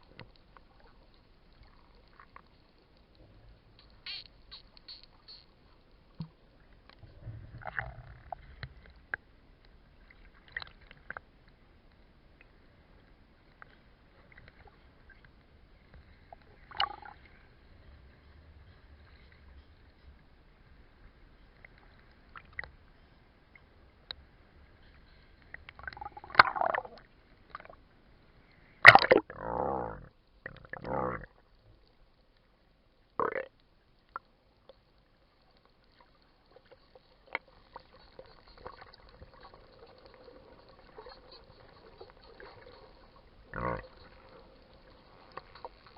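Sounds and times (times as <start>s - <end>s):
underwater clicks and gurgles: 0.0s - 45.9s.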